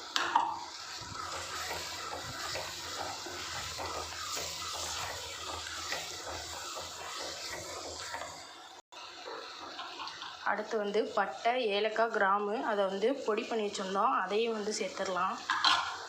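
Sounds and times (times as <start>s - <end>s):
masala sizzling in oil: 0.0s - 16.0s.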